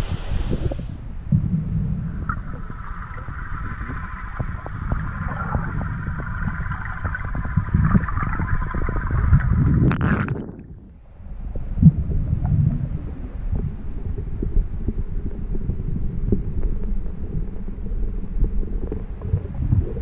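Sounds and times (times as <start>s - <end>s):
low underwater rumble: 0.0s - 20.0s.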